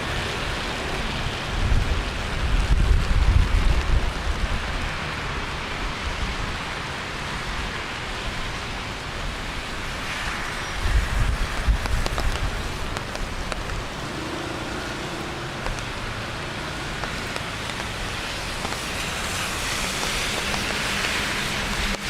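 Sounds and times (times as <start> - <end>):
rain drops ticking: 0.0 - 22.0
steady rain: 0.0 - 22.0
traffic on wet streets: 0.0 - 22.0.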